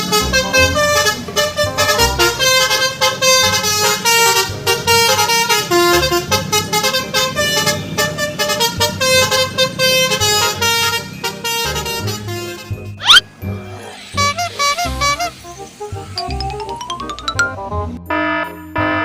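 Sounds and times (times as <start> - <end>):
multi-tone bus horn melody: 0.0 - 13.0, 14.0 - 16.4, 17.6 - 19.0.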